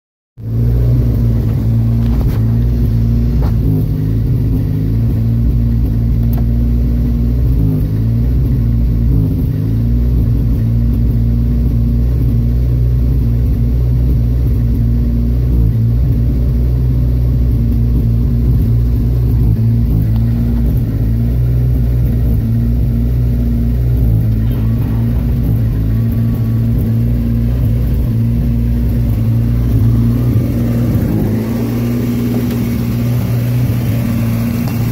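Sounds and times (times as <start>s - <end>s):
car engine idling roughly: 0.4s - 34.9s.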